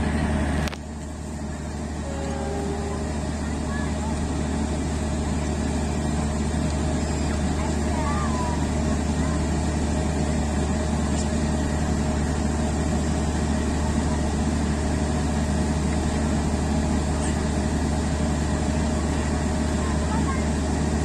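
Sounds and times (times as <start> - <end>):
idling train mechanical hum: 0.0 - 21.0.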